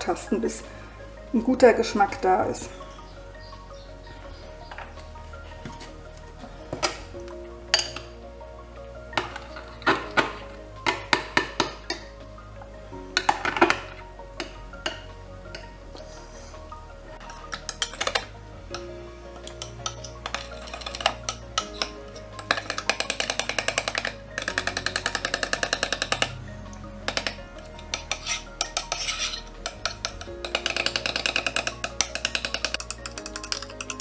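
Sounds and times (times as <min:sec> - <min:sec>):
background music: 0:00.0 - 0:34.0.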